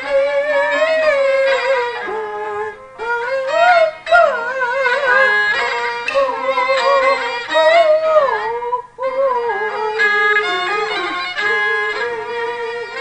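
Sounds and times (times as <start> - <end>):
bowed fiddle sliding melody: 0.0 - 13.0.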